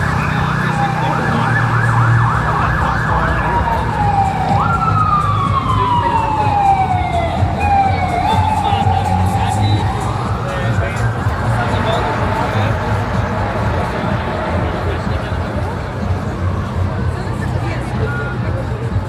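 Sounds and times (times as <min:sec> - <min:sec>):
emergency vehicle siren: 0:00.0 - 0:19.0
low traffic rumble: 0:00.0 - 0:19.0.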